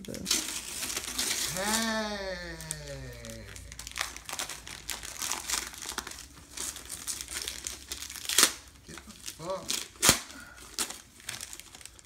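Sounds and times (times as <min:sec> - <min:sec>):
wrapping paper tearing and crumpling: 0:00.0 - 0:12.0.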